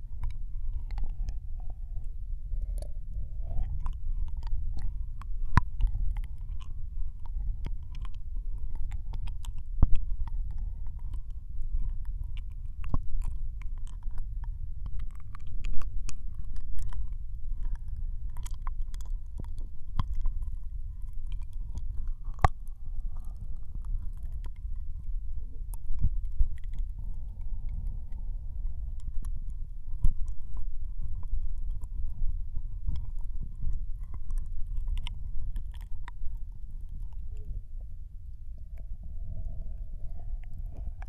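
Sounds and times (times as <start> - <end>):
steady low rumble: 0.0 - 41.0
wet licking and mouth clicks: 0.0 - 41.0.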